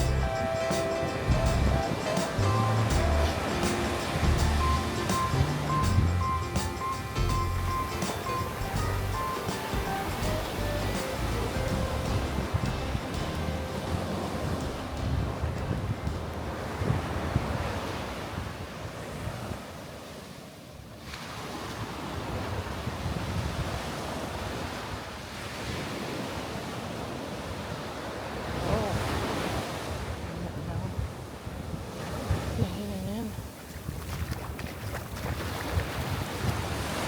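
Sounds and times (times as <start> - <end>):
wind buffeting microphone: 0.0 - 19.8, 21.6 - 26.3, 27.5 - 37.0
sea surf washing onto beach: 0.0 - 37.0.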